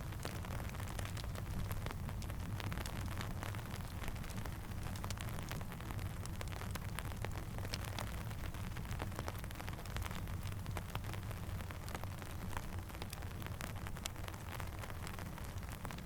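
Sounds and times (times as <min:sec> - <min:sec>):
sharp pops and crackles: 0:00.0 - 0:16.0
steady rain: 0:00.0 - 0:16.0.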